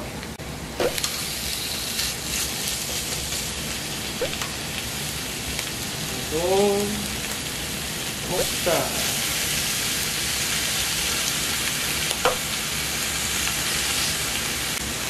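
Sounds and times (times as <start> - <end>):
meat sizzling on a griddle: 0.8 - 15.0.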